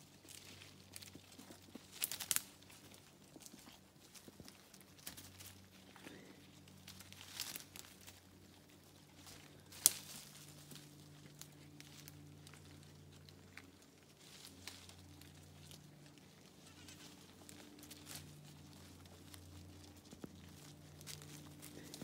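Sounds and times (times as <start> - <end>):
hooves scuffling through dry leaves: 0.0 - 22.0.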